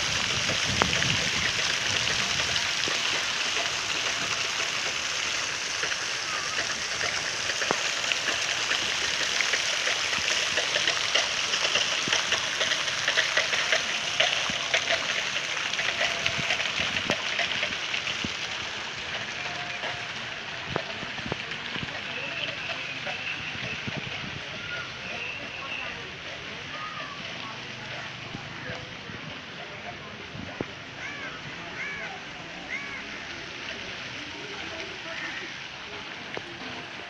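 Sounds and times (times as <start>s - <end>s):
fountain jets splashing into pool: 0.0s - 37.0s.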